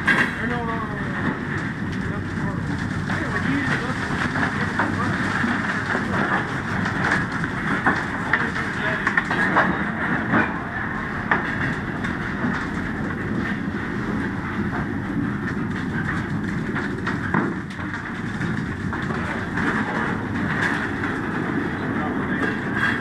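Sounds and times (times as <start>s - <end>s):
train wheels rumbling on rail: 0.0s - 23.0s
wheels clicking and clanking: 0.0s - 23.0s.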